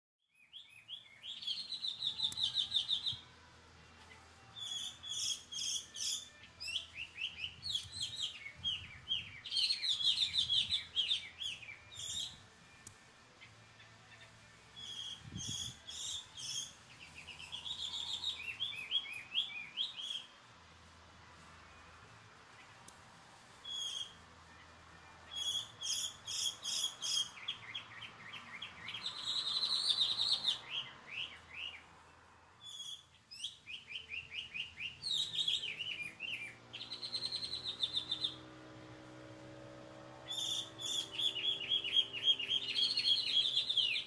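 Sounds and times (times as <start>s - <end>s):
bird singing: 0.2s - 3.4s, 4.0s - 20.4s, 23.6s - 44.0s.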